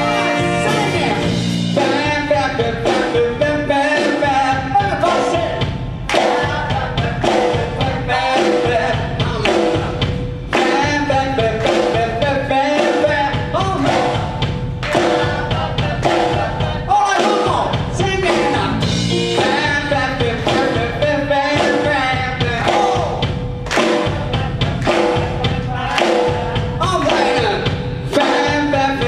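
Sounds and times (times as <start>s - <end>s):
drum kit beating: 0.0s - 29.0s
live band with singer: 0.0s - 29.0s.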